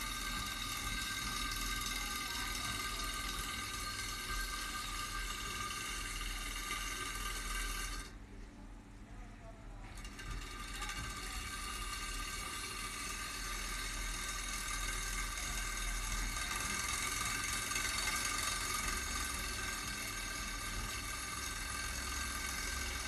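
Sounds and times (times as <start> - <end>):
model engine whirring: 0.0 - 8.2, 9.9 - 23.0.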